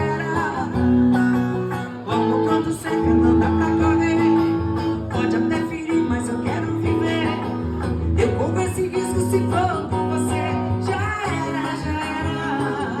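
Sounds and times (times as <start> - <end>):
person singing: 0.0 - 13.0
steady bass line: 0.0 - 13.0
strummed guitar: 0.0 - 13.0.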